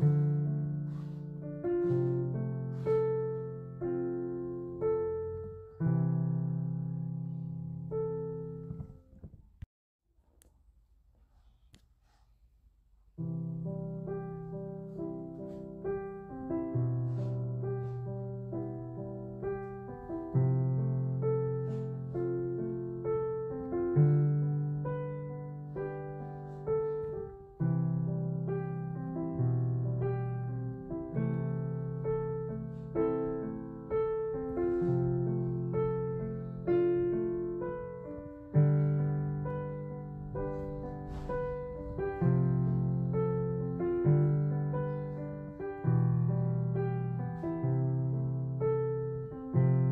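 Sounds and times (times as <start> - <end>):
solo piano music: 0.0 - 9.4, 13.2 - 49.9.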